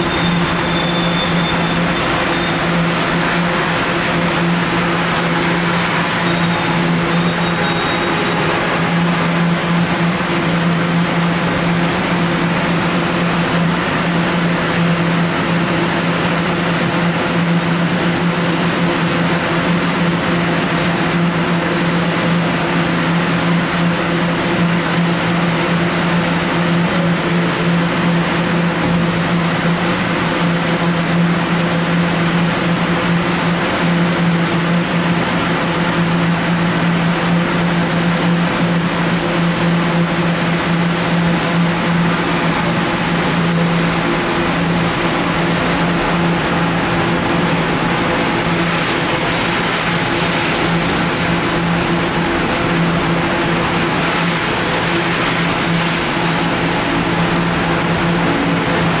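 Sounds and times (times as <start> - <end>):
subway car equipment hum: 0.0 - 59.0.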